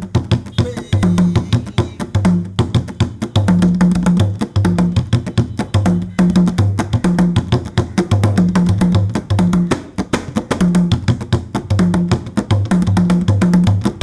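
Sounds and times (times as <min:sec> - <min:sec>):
fast drum music: 0:00.0 - 0:14.0.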